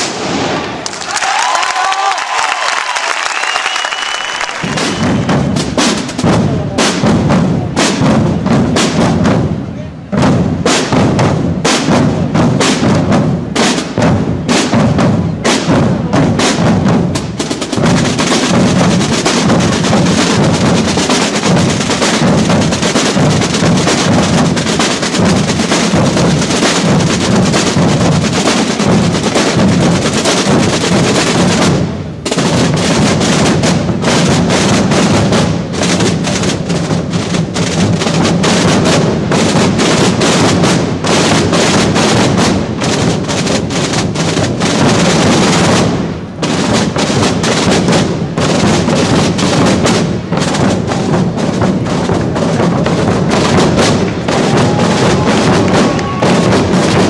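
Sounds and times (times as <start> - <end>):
drum roll: 0.0 - 57.0
drums beaten with sticks: 4.6 - 57.0.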